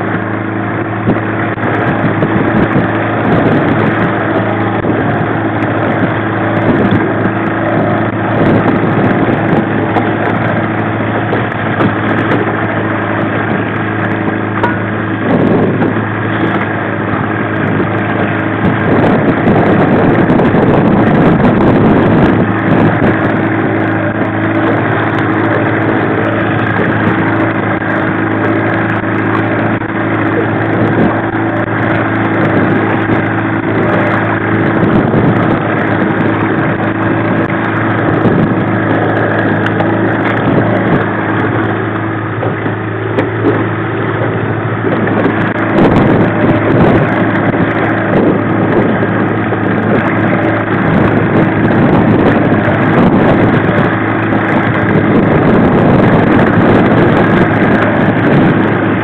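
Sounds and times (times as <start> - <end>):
outboard motor droning: 0.0 - 59.0
rush of noise: 0.0 - 59.0.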